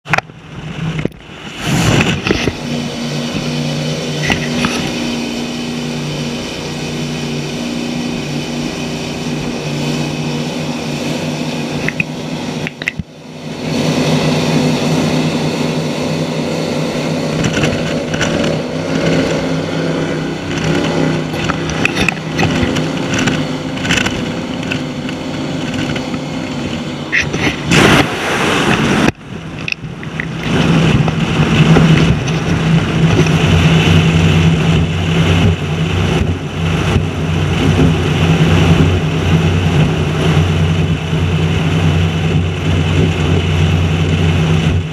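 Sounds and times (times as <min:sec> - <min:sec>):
rush of wind and water: 0:00.0 - 0:44.9
powerboat engines running: 0:00.1 - 0:44.9.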